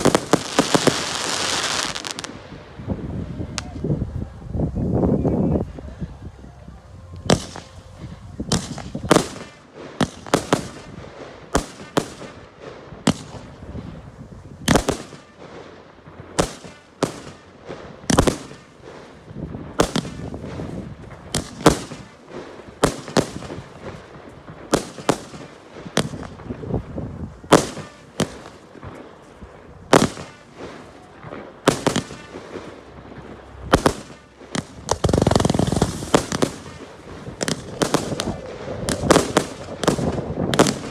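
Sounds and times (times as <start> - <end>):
fireworks bursting: 0.0 - 6.4, 7.0 - 40.9.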